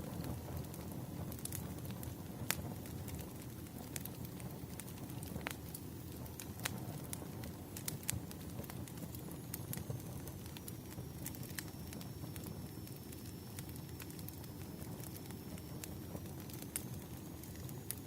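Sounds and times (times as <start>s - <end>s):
firewood crackling and popping: 0.0s - 18.0s
low rumble of flames: 0.0s - 18.0s.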